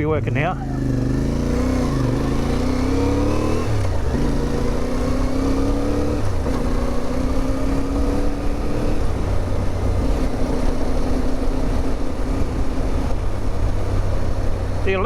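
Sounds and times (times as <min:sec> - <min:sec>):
motorcycle engine cruising: 0:00.0 - 0:15.0
wind rushing over microphone: 0:00.8 - 0:15.0.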